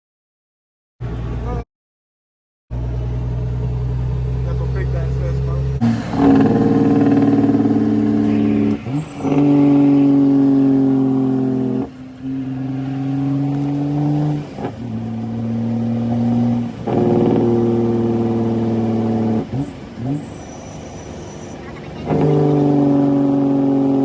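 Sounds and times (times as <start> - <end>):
diesel truck pulling away: 2.7 - 24.0.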